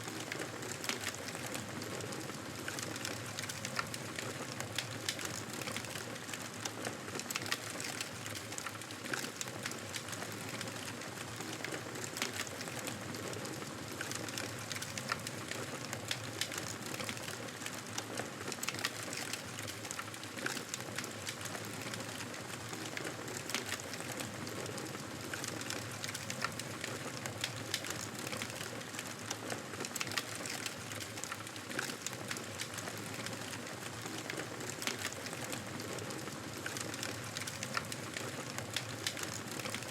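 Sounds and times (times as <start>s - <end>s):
campfire crackling and hissing: 0.0s - 39.9s.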